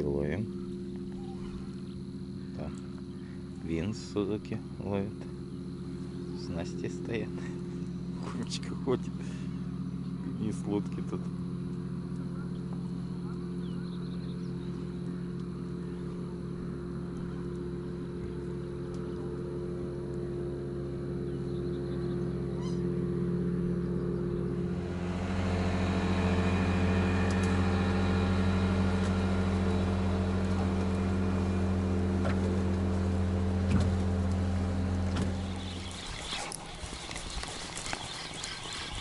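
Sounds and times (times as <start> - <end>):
boat motor running: 0.0 - 39.0.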